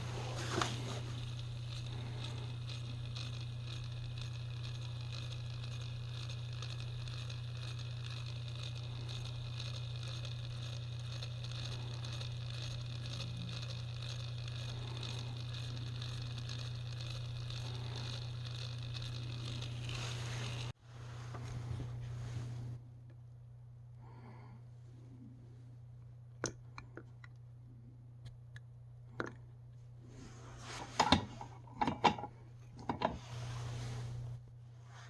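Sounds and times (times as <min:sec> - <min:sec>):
exhaust fan humming: 0:00.0 - 0:35.0.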